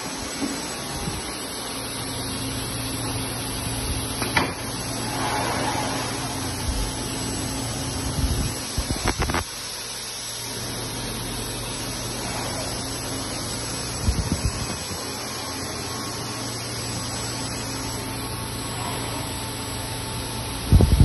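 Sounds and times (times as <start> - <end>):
welding machine hum: 0.0 - 21.0.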